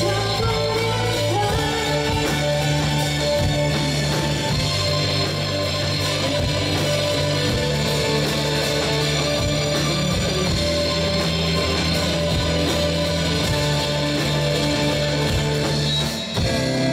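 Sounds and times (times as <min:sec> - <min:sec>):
electric guitar: 0:00.0 - 0:16.9
live rock band playing: 0:00.0 - 0:16.9.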